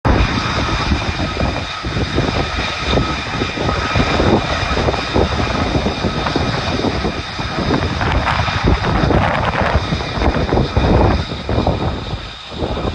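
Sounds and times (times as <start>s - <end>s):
jet engine afterburner rumble: 0.0s - 12.9s.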